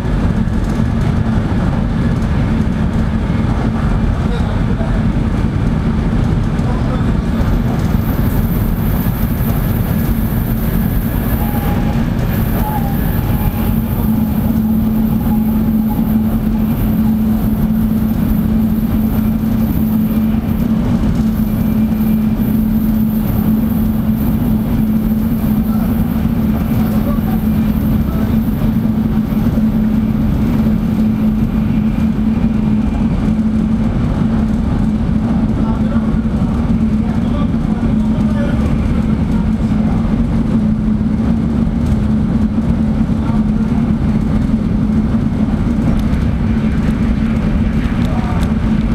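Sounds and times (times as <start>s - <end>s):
train cabin rumble and hum: 0.0s - 48.9s.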